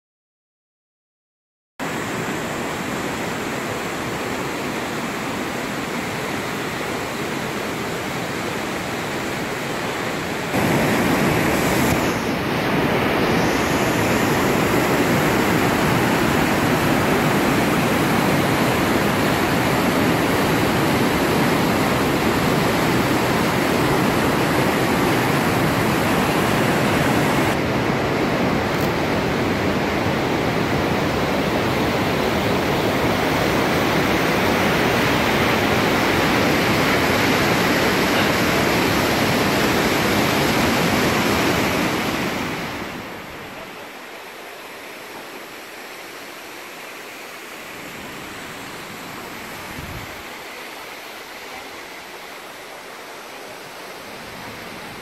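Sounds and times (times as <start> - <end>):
river rapids rushing: 1.8 - 55.0.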